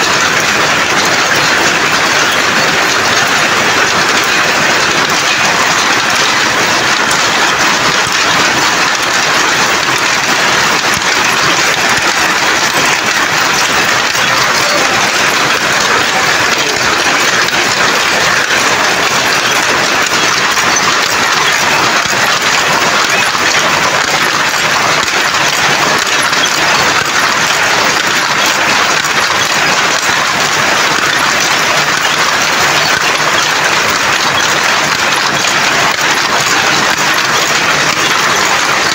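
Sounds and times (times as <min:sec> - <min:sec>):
weaving looms clattering: 0:00.0 - 0:38.9.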